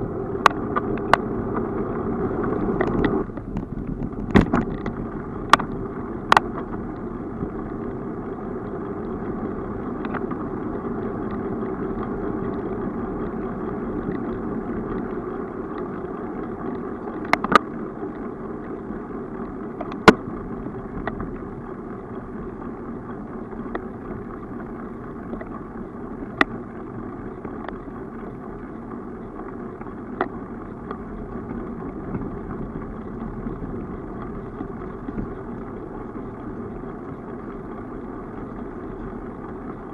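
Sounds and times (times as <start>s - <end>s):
bicycle tyre and wind noise: 0.0s - 39.9s.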